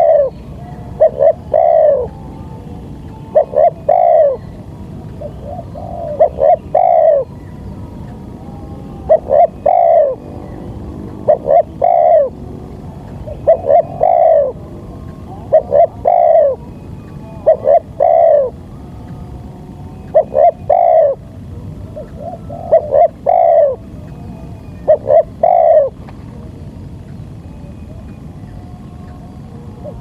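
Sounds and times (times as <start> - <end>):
dove cooing: 0.0 - 26.2.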